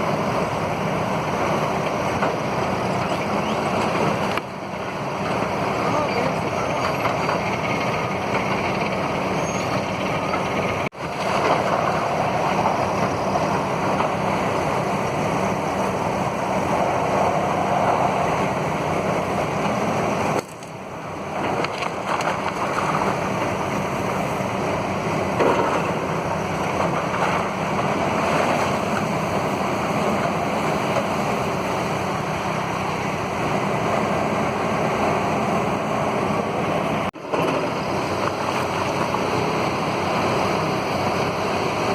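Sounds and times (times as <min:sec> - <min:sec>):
heavy machinery engine drone: 0:00.0 - 0:41.9
rumble of demolition work: 0:00.0 - 0:41.9.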